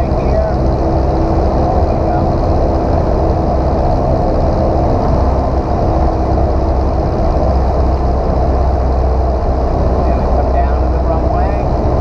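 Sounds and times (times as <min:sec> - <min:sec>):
airplane engine and propeller drone: 0:00.0 - 0:12.0.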